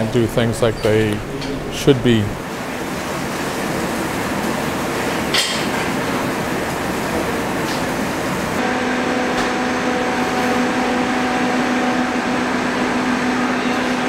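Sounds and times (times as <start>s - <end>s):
kitchen ventilation rushing: 0.0s - 14.0s.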